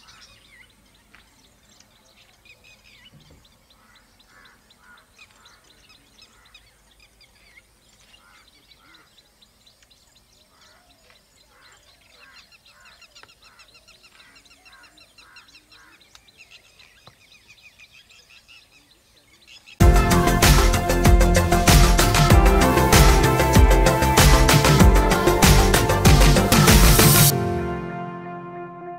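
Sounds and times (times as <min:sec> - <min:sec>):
birds chirping: 0:00.0 - 0:27.3.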